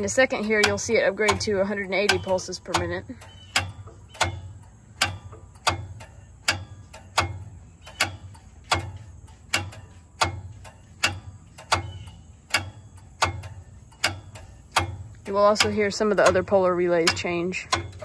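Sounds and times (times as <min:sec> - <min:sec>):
relay clicking: 0:00.0 - 0:18.0.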